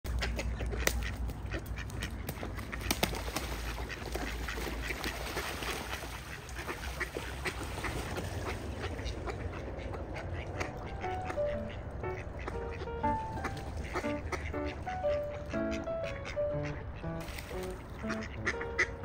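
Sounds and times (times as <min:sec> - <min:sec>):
ducks quacking: 0:00.1 - 0:19.0
river water splashing: 0:00.1 - 0:19.0.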